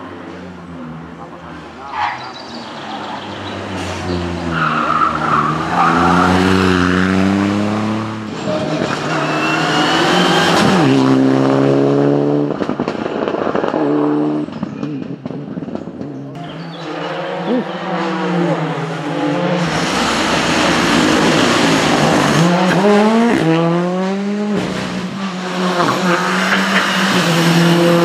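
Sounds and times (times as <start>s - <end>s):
rally car engines revving hard: 0.0s - 28.0s.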